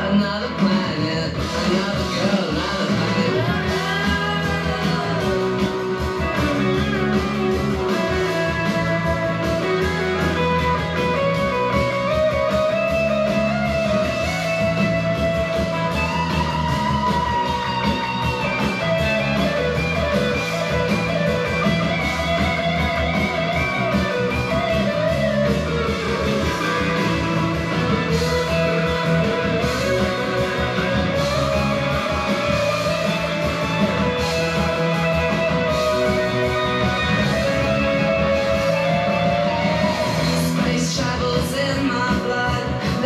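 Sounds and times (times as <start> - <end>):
guitar instrumental music: 0.0 - 43.0.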